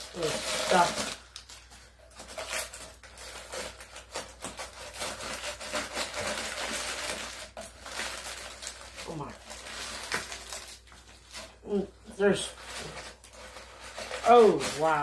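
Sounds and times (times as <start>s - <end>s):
packing material crinkling: 0.0s - 15.0s.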